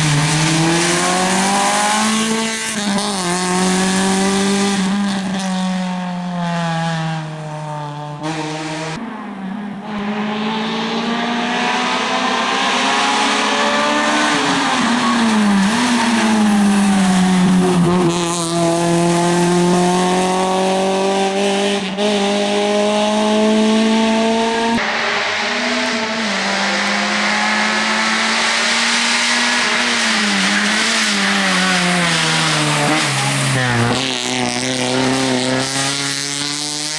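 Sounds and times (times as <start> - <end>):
rally car engine at high revs: 0.0 - 36.9.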